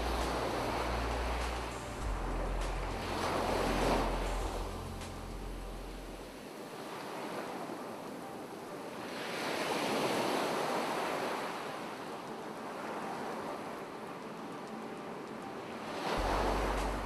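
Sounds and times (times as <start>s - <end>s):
ocean waves breaking on shore: 0.0s - 17.0s.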